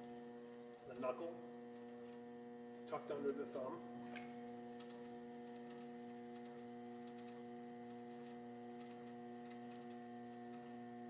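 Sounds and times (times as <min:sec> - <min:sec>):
potter's wheel humming: 0:00.0 - 0:11.0.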